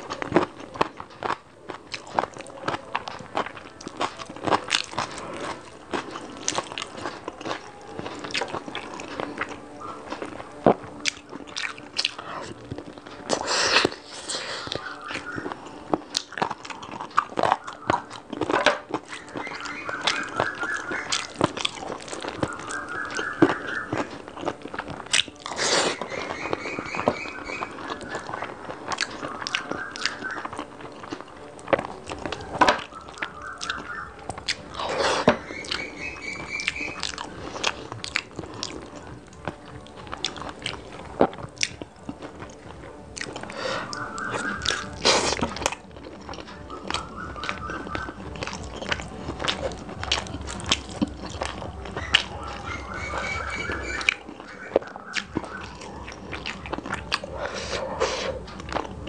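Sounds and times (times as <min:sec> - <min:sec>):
chewing and wet mouth sounds: 0:00.0 - 0:59.0.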